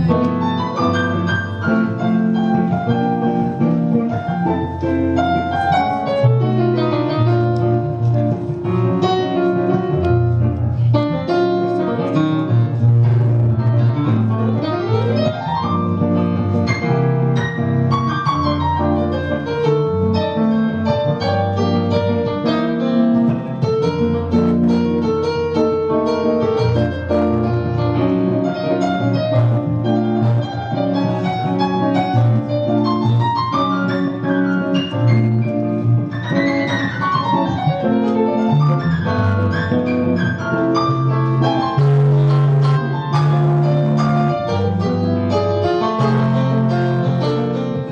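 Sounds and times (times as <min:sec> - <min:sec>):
jazz piano playing: 0:00.0 - 0:47.9
low bass line: 0:00.0 - 0:47.9.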